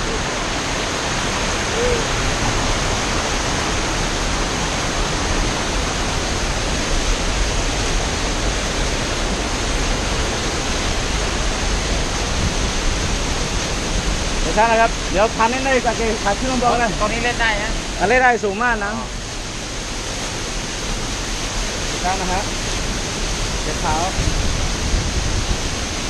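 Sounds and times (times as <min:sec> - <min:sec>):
waterfall pouring: 0:00.0 - 0:26.0.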